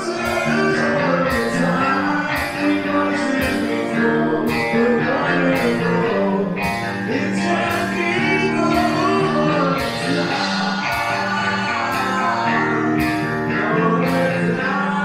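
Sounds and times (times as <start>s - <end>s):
man singing: 0.0s - 15.0s
punk band playing: 0.0s - 15.0s.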